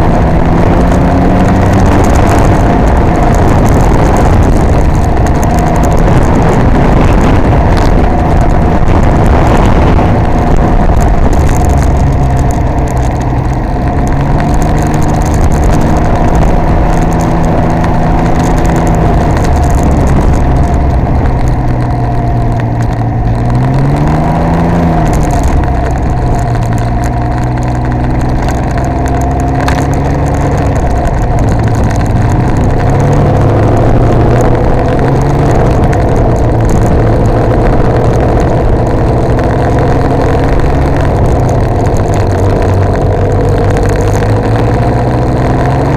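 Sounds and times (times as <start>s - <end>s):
engine revving: 0.0s - 45.9s
motorcycle engine running: 0.0s - 45.9s.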